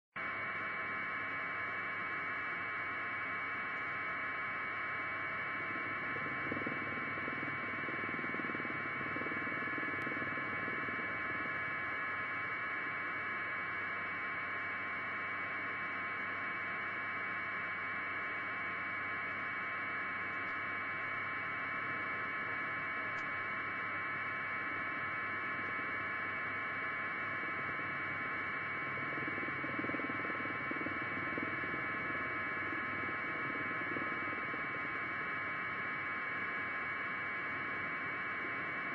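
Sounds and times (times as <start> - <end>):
constant hum: 0.2 - 38.9.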